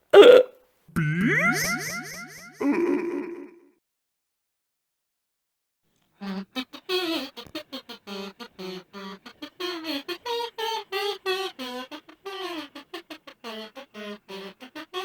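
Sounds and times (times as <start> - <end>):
kazoo tune: 0.0 - 3.5, 6.2 - 15.0.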